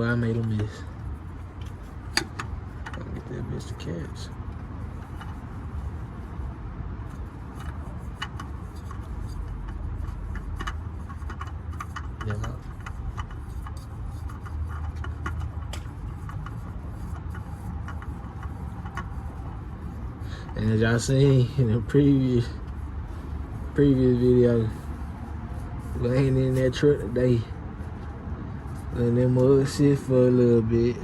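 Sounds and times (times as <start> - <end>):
metal and rubber clicks and scrapes: 0.0 - 31.0
steady low rumble: 0.0 - 31.0.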